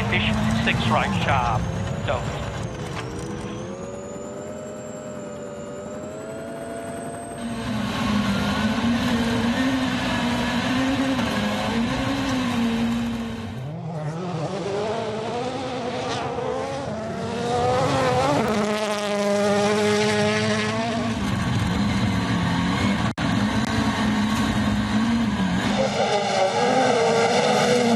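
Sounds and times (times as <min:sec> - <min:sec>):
rally car engine revving: 0:00.0 - 0:27.9.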